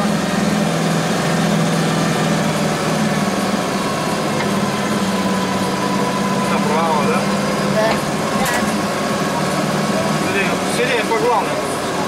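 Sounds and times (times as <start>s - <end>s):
diesel van engine running: 0.0s - 12.0s.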